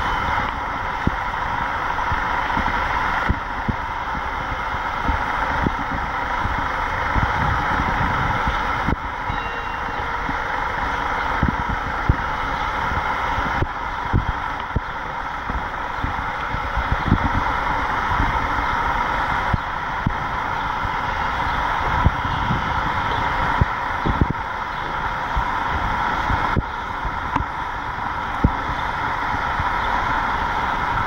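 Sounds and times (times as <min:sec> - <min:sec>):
distant road traffic hum: 0:00.0 - 0:31.0
wind buffeting microphone: 0:00.0 - 0:31.0.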